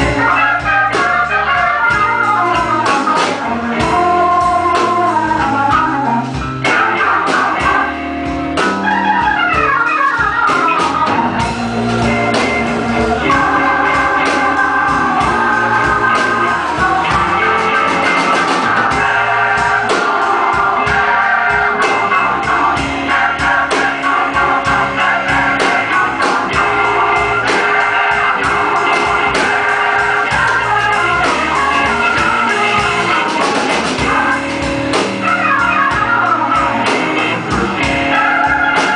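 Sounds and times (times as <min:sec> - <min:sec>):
blues band playing: 0:00.0 - 0:38.9
drums: 0:00.0 - 0:38.9
electric organ runs: 0:00.0 - 0:38.9.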